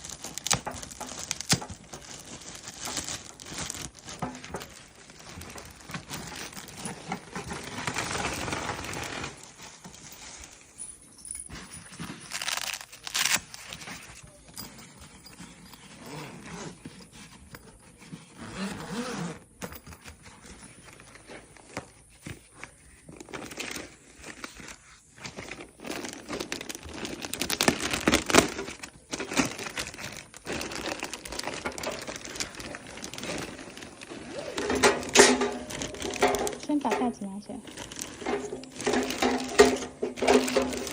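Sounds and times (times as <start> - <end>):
packaging crinkling and rustling: 0.0 - 10.9, 11.5 - 40.9.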